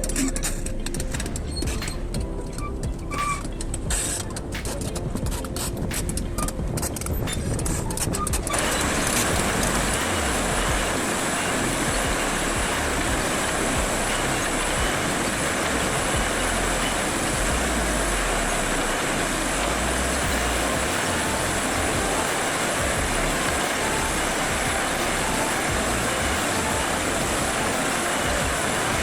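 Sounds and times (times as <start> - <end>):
heavy machinery engine rumble: 0.0 - 29.0.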